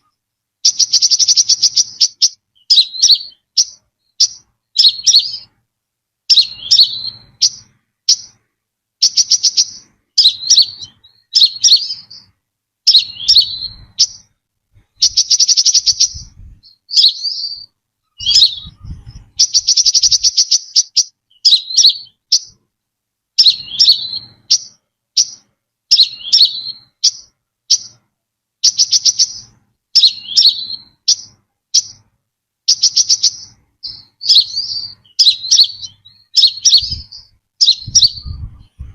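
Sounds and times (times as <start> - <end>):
bird high chirps: 0.0 - 5.6, 6.3 - 22.6, 23.4 - 38.9.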